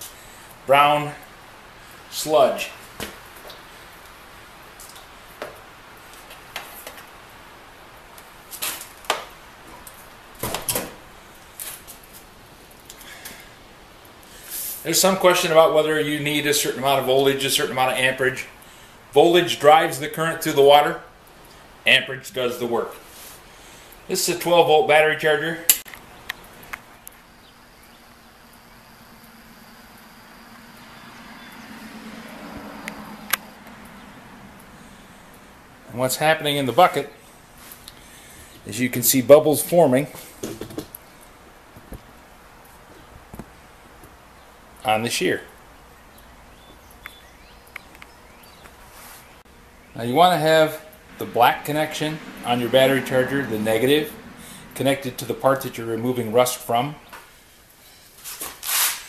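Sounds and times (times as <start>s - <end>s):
faint steady hiss: 0.0s - 31.0s, 33.3s - 59.0s.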